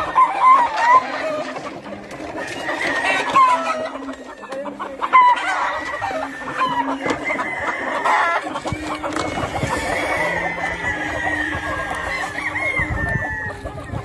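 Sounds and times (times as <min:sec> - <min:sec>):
hens clucking: 0:00.0 - 0:14.0
roosters crowing: 0:00.0 - 0:14.0.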